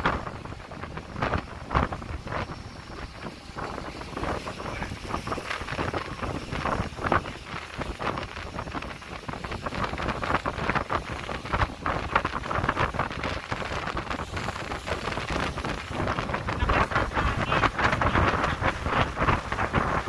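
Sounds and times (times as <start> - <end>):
boat engine: 0.0 - 20.0
boat wake rushing: 0.0 - 20.0
gusty wind buffeting microphone: 0.0 - 20.0.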